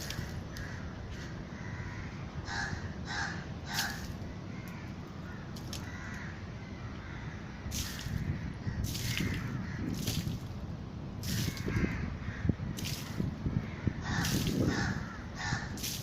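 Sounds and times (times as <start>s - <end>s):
crows cawing: 0.0s - 10.3s, 11.3s - 16.0s.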